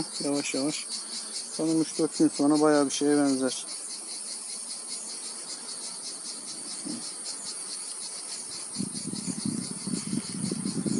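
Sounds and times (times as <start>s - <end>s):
insects chirring: 0.0s - 10.9s.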